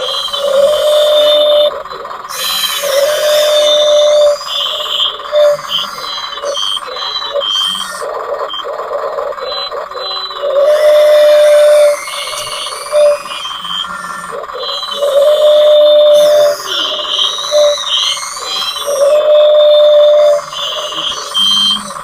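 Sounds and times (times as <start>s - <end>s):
small electric motors whining: 0.0s - 22.0s
steady hum: 0.0s - 22.0s.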